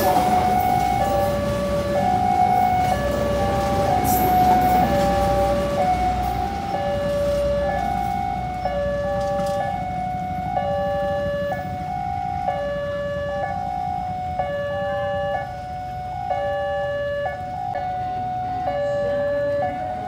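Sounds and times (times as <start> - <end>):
level crossing two-tone alarm: 0.0 - 20.0.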